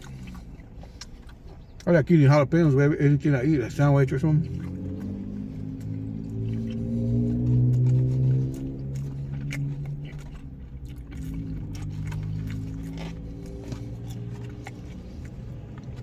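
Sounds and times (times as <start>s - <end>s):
wet mouth clicks and smacks: 0.0s - 1.9s, 4.4s - 16.0s
person chewing food: 0.0s - 2.1s, 3.8s - 16.0s.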